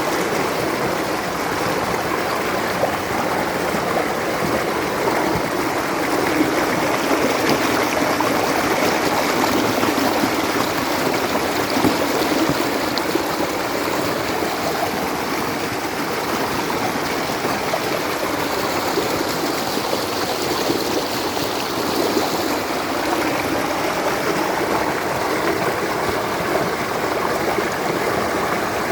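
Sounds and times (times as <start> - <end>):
stream water flowing: 0.0 - 28.9.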